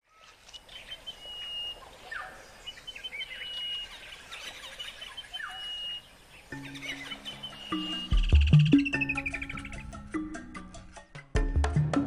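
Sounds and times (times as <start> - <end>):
birds chirping: 0.0 - 10.6
faint outdoor hiss: 0.1 - 11.1.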